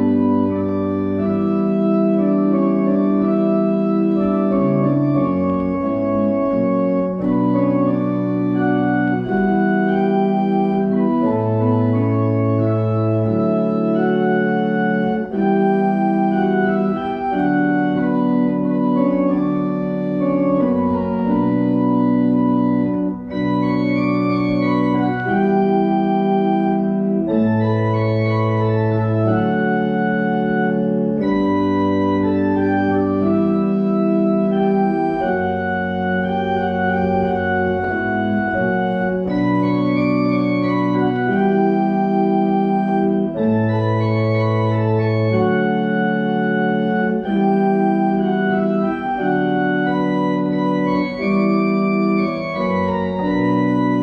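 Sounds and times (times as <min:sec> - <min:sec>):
church organ playing hymn: 0:00.0 - 0:54.0.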